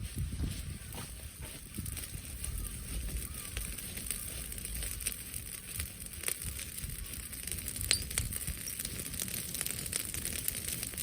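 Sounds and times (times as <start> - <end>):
bonfire crackling: 0.0 - 11.0
low wind rumble: 0.0 - 11.0
sharp pops and snaps: 1.0 - 11.0.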